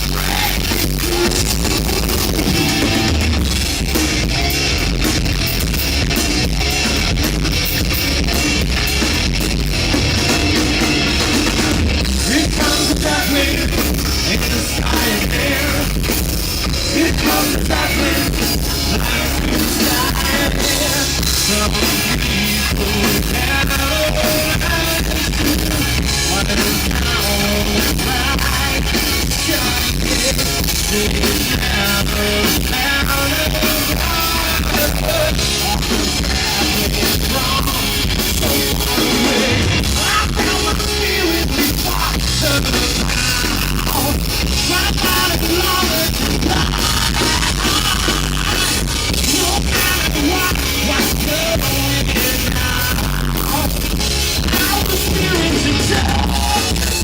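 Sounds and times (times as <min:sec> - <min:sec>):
person singing: 0:00.0 - 0:03.9, 0:10.9 - 0:57.0
drum kit: 0:00.0 - 0:57.0
electric guitars: 0:00.0 - 0:57.0.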